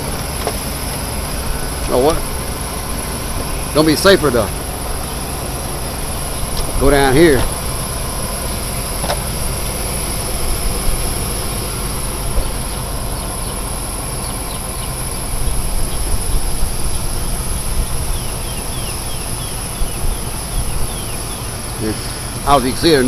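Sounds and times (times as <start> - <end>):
engine idling: 0.0 - 23.0
insects chorus: 0.0 - 23.0.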